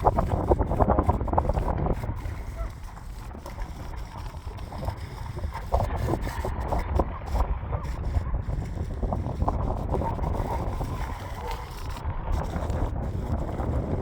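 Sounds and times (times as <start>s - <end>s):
short crackles: 0.0s - 14.0s
wind buffeting microphone: 0.0s - 14.0s.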